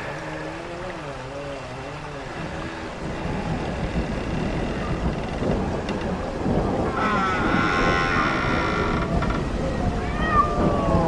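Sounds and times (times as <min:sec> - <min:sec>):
low rumbling: 0:00.0 - 0:11.0.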